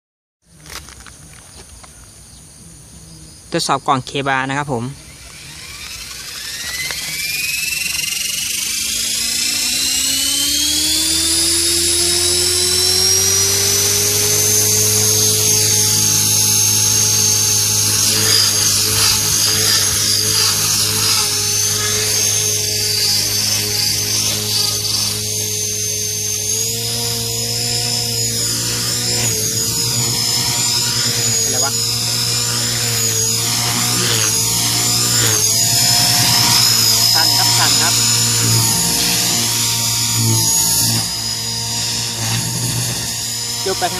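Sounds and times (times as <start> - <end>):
model helicopter whine: 0.5 - 43.9.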